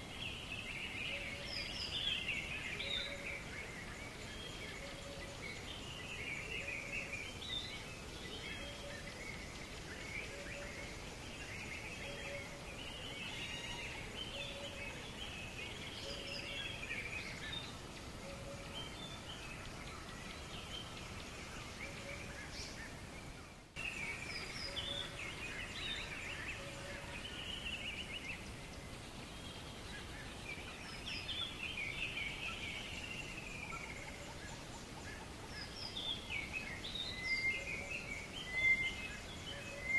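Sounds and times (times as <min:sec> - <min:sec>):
outdoor hiss: 0:00.0 - 0:39.9
small birds chirping: 0:00.0 - 0:39.9.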